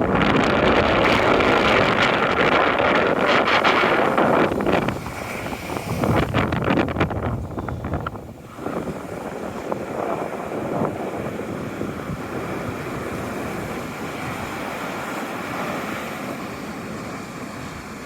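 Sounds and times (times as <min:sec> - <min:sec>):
sea waves washing on shore: 0:00.0 - 0:18.0
wind buffeting microphone: 0:00.0 - 0:18.0.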